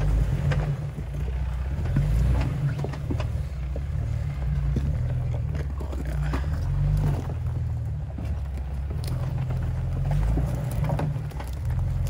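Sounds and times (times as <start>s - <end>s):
engine running at low revs: 0.0s - 12.0s
stones clicking under tyres: 0.0s - 12.0s.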